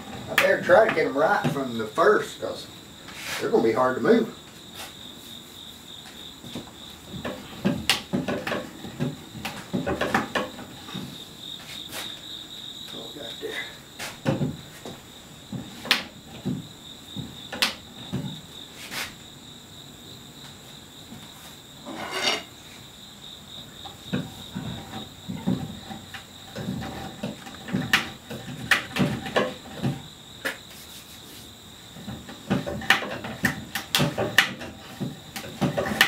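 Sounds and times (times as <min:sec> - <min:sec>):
insect chirring: 0:00.0 - 0:36.0.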